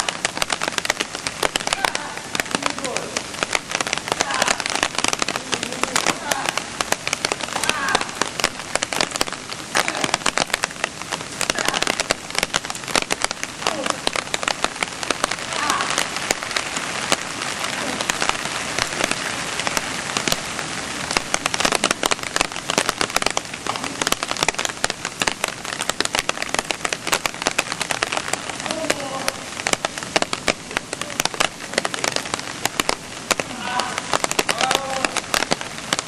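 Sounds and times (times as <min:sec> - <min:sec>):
steady rain: 0:00.0 - 0:36.0.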